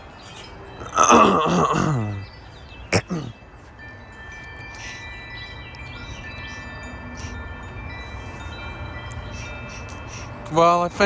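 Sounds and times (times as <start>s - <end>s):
metal wind chimes ringing: 0.0s - 11.0s.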